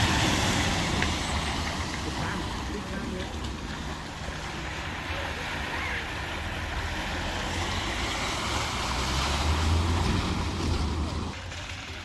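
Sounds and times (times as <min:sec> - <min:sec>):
rushing wash of water: 0:00.0 - 0:12.0.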